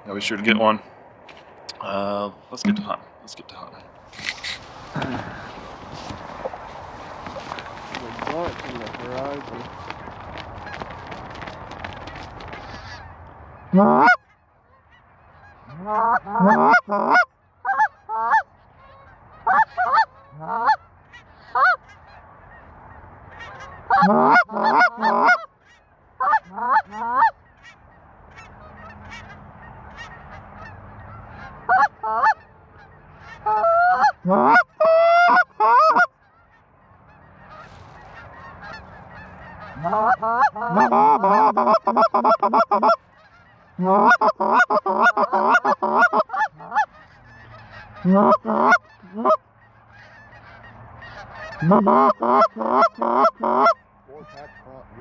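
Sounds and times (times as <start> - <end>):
goose call honks and clucks: 0.0 - 9.7, 10.6 - 55.0.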